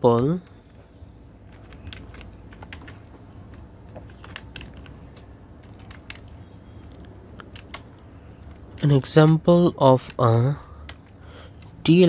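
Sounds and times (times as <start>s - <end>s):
keyboard typing clicks: 1.5s - 12.0s.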